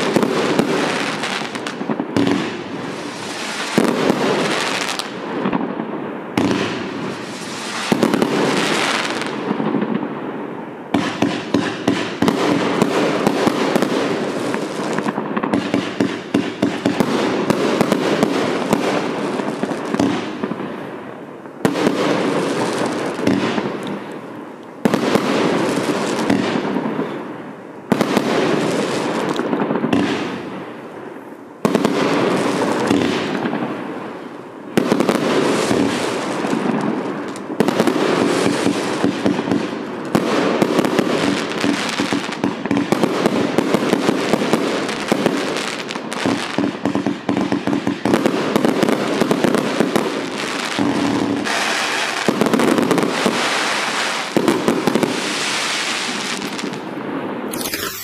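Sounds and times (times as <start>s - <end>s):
fireworks firing and bursting: 0.0s - 58.0s.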